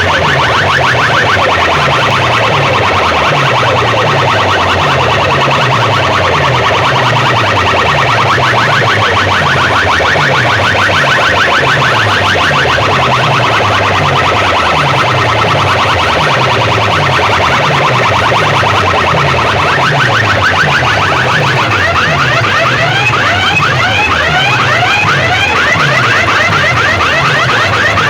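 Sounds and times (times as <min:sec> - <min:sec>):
loud electronic dance music: 0:00.0 - 0:28.0.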